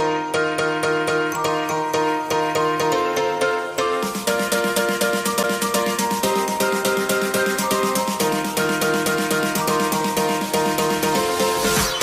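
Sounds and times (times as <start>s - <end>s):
plucked and keyboard music: 0.0s - 12.0s.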